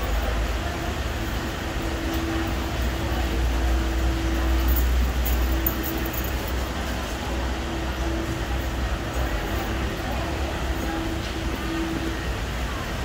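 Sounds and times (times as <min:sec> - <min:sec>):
funicular car rumble: 0:00.0 - 0:13.0
steady hum: 0:00.0 - 0:13.0.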